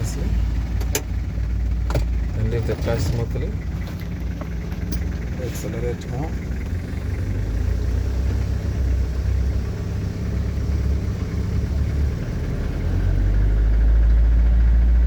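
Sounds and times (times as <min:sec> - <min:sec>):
truck engine accelerating: 0:00.0 - 0:15.0.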